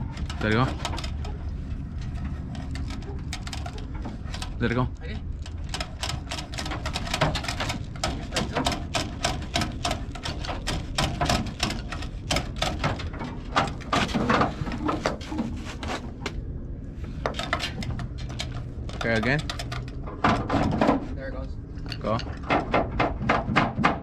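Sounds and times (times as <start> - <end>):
wiring harness scraping on metal: 0.0 - 16.3, 17.0 - 20.2.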